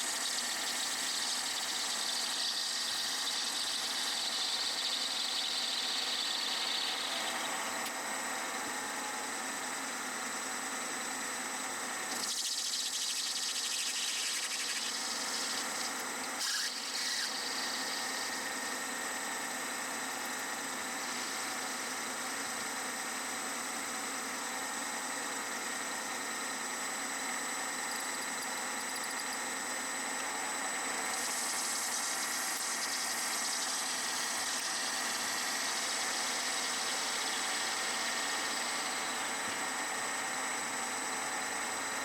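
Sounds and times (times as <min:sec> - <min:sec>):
metal lathe whining: 0:00.0 - 0:42.0.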